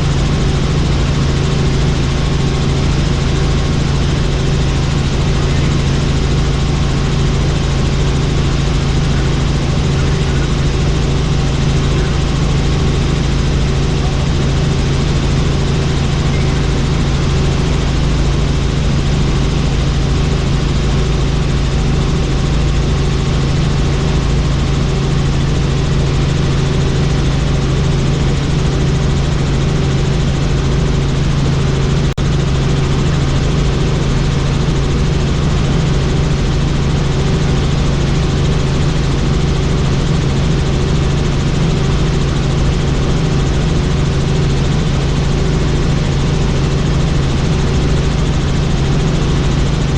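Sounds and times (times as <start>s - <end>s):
helicopter rotor drone: 0.0s - 49.9s.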